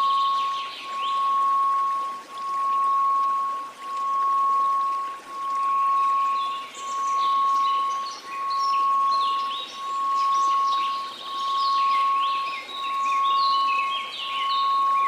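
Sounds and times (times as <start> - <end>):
birds chirping and trilling: 0.0 - 15.0
pulsing pure tone: 0.0 - 15.0
white noise hiss: 0.0 - 15.0.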